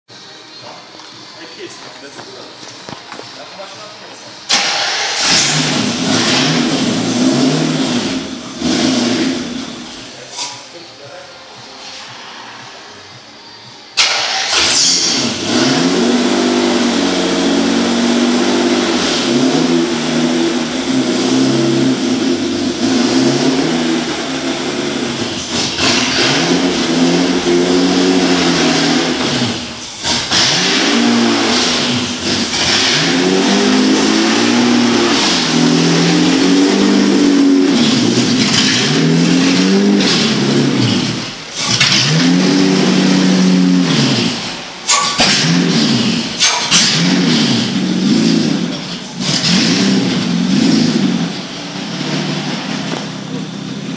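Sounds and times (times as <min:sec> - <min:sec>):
car engine revving hard: 0:04.5 - 0:10.1, 0:14.0 - 0:53.9.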